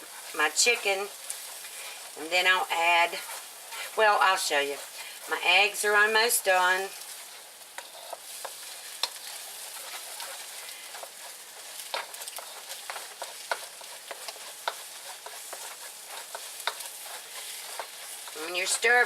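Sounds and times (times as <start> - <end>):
eggs sizzling in oil: 0.0 - 19.0.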